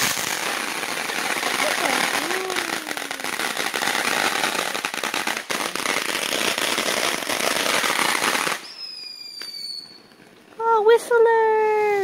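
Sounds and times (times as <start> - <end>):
firework crackling hiss: 0.0 - 10.4.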